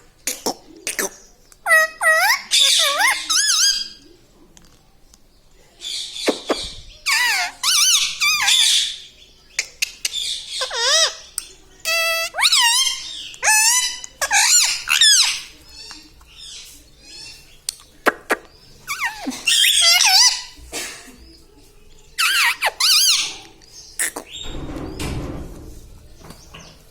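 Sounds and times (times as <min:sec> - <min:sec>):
parrot squeaky calls and chatter: 0:00.2 - 0:04.1, 0:05.8 - 0:20.6, 0:22.1 - 0:25.1.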